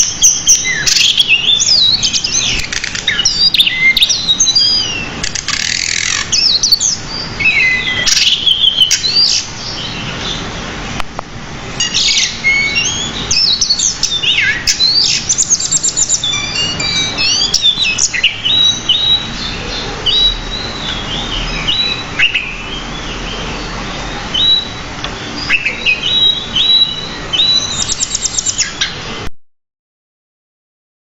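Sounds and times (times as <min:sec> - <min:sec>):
bird singing: 0:00.0 - 0:10.6, 0:11.8 - 0:29.2.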